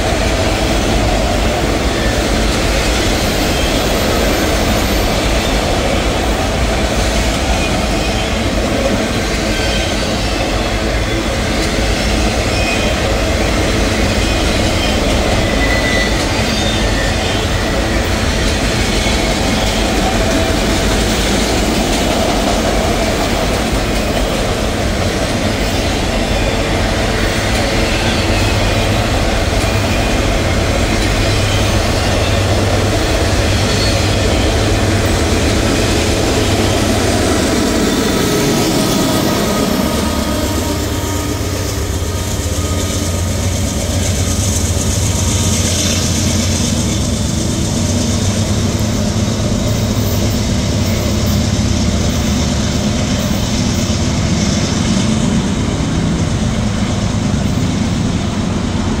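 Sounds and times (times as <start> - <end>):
diesel locomotive engine drone: 0.0 - 59.0
freight train wheels rumbling on rail: 0.0 - 59.0.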